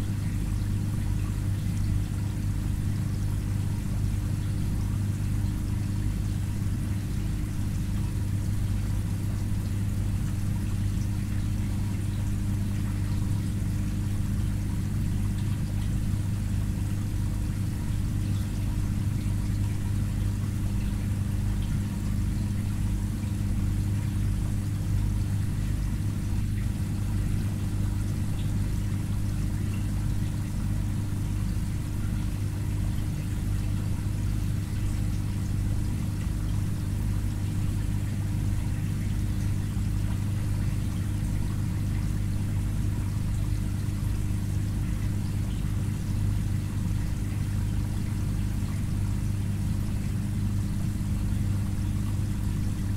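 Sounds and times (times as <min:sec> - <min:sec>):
aquarium pump hum: 0:00.0 - 0:52.9
water trickling: 0:00.0 - 0:52.9.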